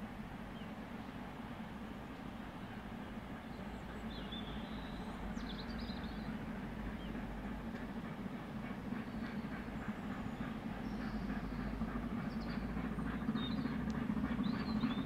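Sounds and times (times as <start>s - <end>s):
distant steam locomotive rumble: 0.0s - 15.0s.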